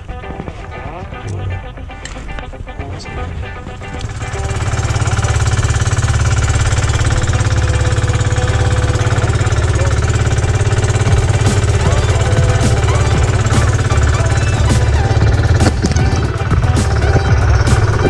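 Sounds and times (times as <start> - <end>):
boat engine pulsing: 0.0 - 18.0.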